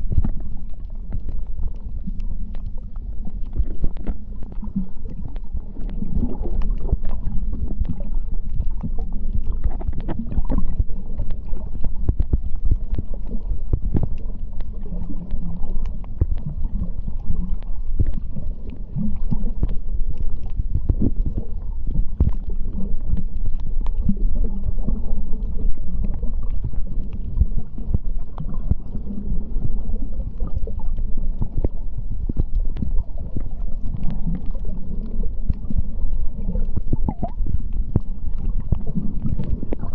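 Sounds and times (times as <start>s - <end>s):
underwater clicks and crackles: 0.0s - 39.9s
underwater water rumble: 0.0s - 39.9s.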